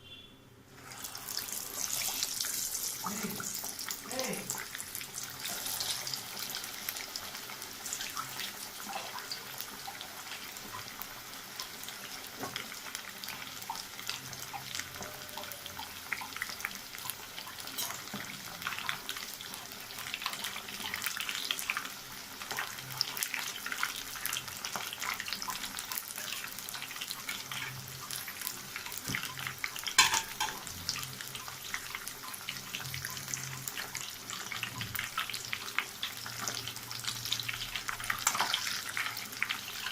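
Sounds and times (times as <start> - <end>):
chicken sizzling in hot oil: 0.7 - 39.9.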